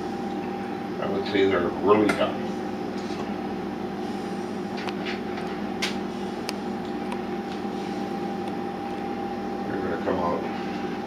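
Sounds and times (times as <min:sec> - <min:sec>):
appliance or fan humming: 0:00.0 - 0:11.0.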